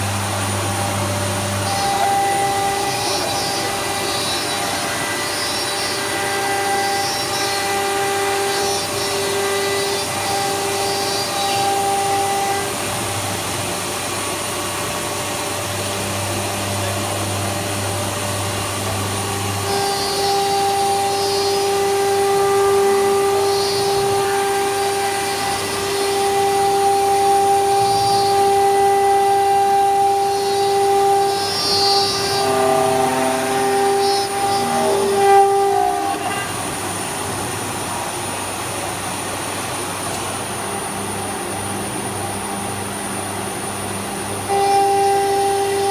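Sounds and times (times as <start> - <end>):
machine drone with humming tone: 0.0 - 45.9.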